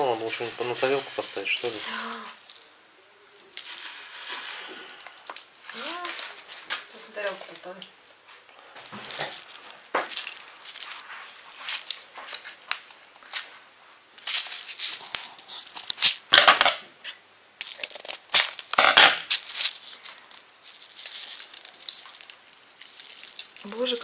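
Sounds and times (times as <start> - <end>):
packets crinkling and rustling: 0.0 - 2.7, 3.3 - 7.8, 8.8 - 13.6, 14.2 - 16.8, 17.6 - 24.0.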